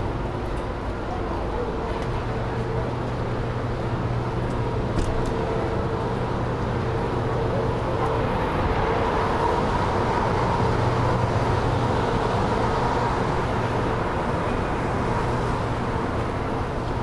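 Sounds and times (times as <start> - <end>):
city street traffic: 0.0 - 17.0
vehicle engine humming: 0.0 - 17.0.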